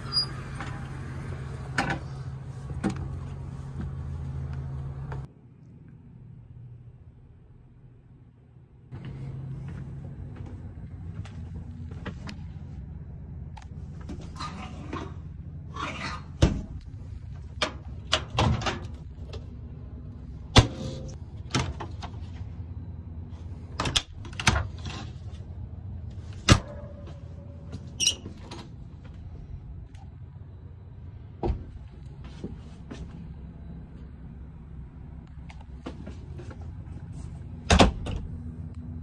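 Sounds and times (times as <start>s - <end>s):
steady low hum: 0.6s - 39.0s.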